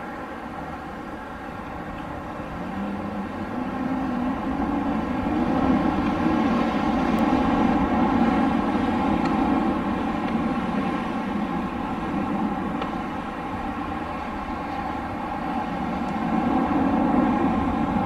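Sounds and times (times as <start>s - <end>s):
wind blowing: 0.0s - 18.0s.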